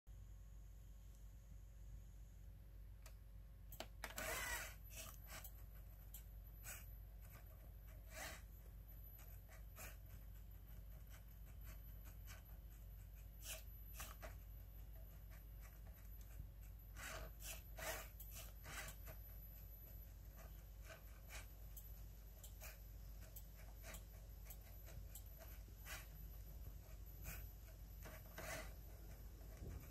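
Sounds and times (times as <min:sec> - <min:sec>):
steady low hum: 0:00.1 - 0:29.9
motors and gears moving: 0:03.8 - 0:19.7, 0:20.3 - 0:29.9
pen scratching on paper: 0:04.2 - 0:29.9.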